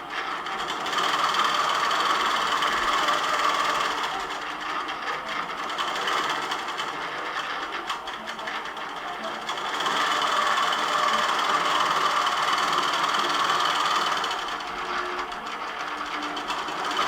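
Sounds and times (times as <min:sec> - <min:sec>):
quilting machine stitching: 0:00.0 - 0:17.0.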